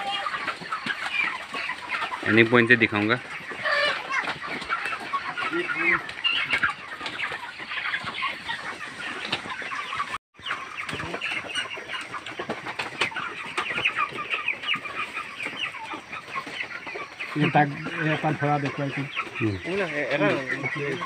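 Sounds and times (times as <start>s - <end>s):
chickens clucking and chirping: 0.0s - 21.0s.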